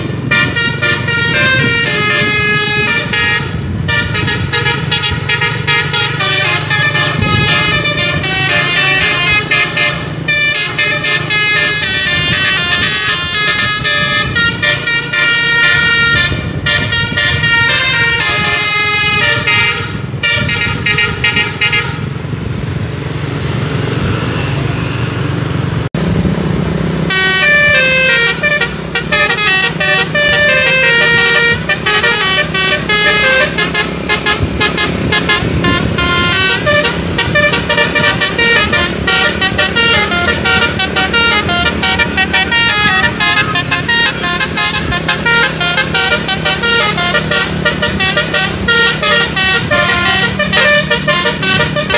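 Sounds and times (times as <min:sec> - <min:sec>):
bus engine: 0:00.0 - 0:51.9
musical air horn melodies: 0:00.2 - 0:22.0, 0:27.1 - 0:51.9.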